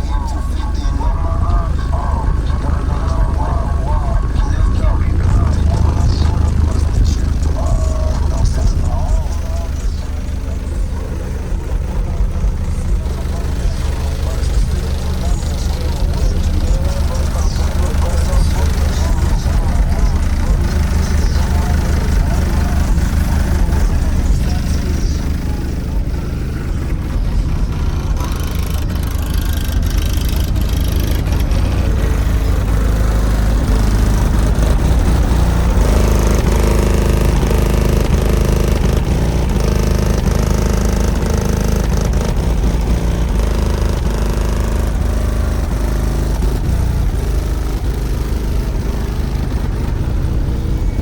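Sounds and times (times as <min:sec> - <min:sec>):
bass-heavy music from subwoofers: 0:00.0 - 0:51.0
mid range rattle: 0:00.0 - 0:51.0.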